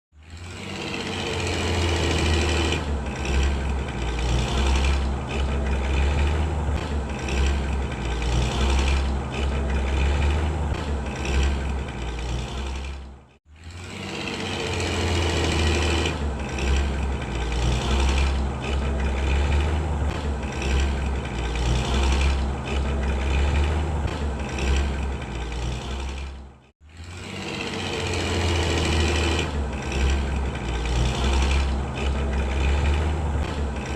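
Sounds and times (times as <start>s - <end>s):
truck engine rumbling: 0.1s - 33.9s.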